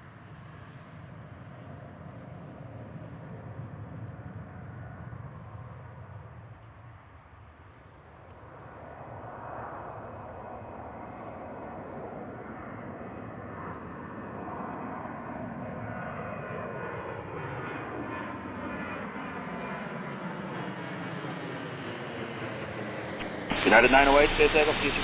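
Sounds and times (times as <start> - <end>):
jet airliner engines passing: 0.0 - 25.0.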